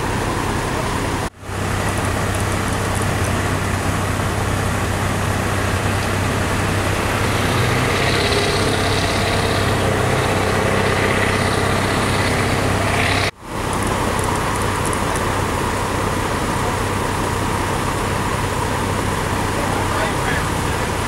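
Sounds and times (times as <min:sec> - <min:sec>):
heavy vehicle engine idling: 0:00.0 - 0:21.0
road traffic: 0:00.0 - 0:21.0.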